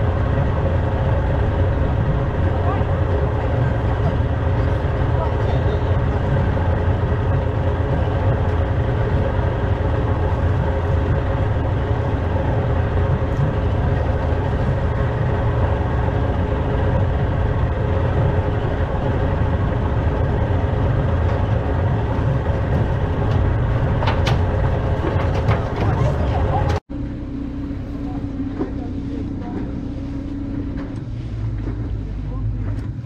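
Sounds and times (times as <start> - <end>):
wind noise: 0.0 - 26.8
outboard motor running: 0.0 - 33.0
water noise: 0.0 - 33.0.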